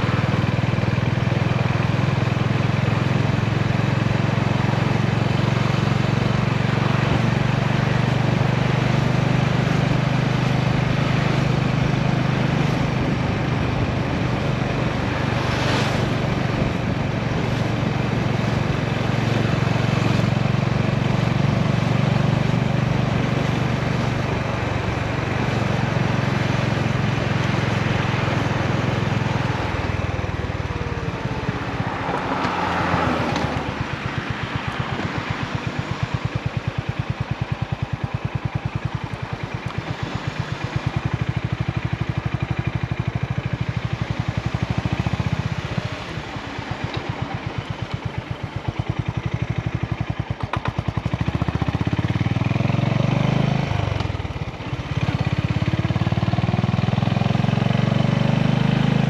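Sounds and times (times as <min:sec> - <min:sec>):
motorcycle engine and exhaust running: 0:00.0 - 0:59.0.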